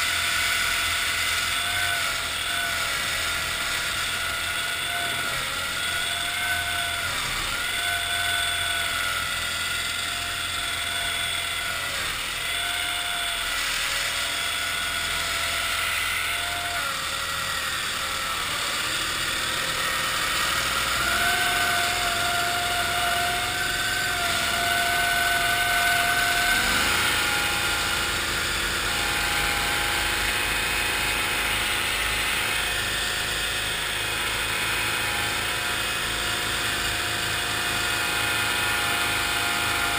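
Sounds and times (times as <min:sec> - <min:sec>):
tracked vehicle engine whine: 0:00.0 - 0:39.9.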